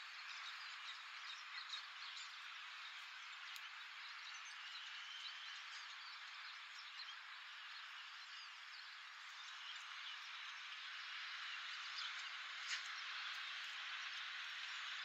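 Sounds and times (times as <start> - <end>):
birds twittering and chirping: 0.0 - 15.0.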